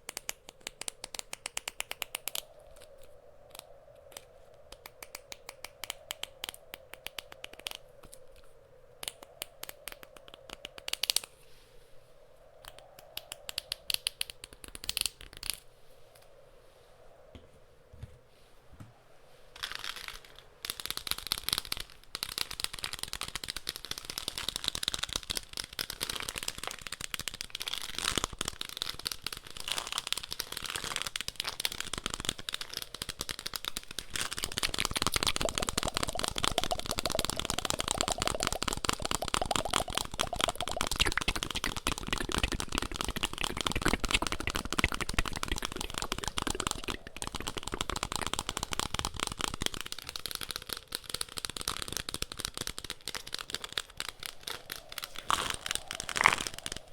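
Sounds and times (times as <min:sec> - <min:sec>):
faint steady wind: 0:00.0 - 0:56.9.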